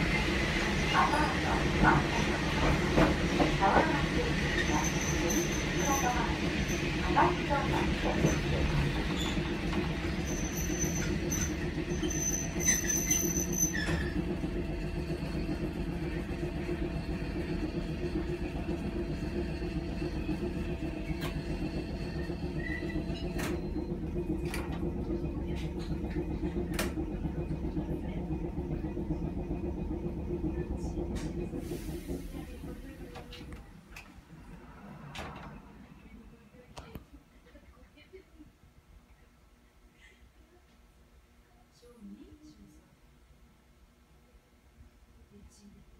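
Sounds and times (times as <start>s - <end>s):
tram motors and wheels rumbling: 0.0s - 39.6s.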